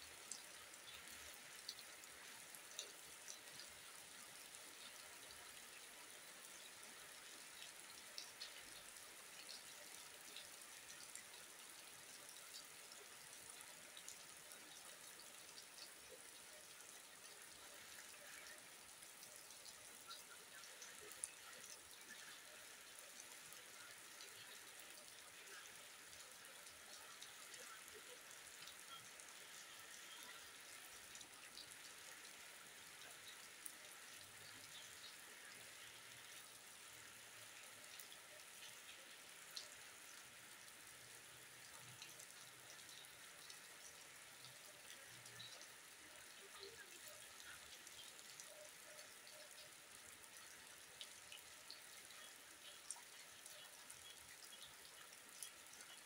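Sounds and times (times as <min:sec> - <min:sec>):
faint rain on wet ground: 0:00.0 - 0:56.0.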